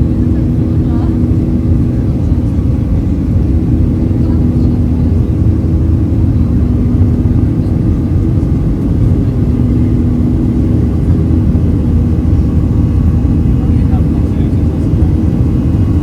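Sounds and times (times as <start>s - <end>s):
jet engines heard in cabin: 0.0s - 16.0s.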